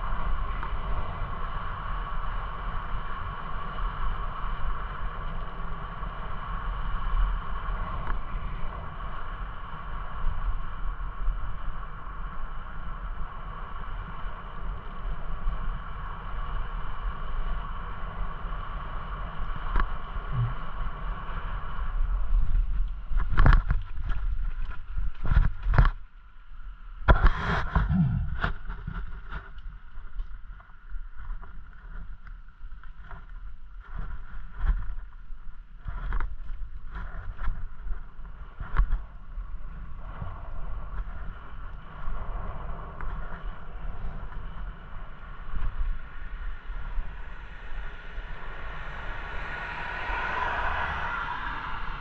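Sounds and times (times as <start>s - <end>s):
steady multi-tone whine: 0.0s - 52.0s
wind rumbling on microphone: 0.0s - 52.0s.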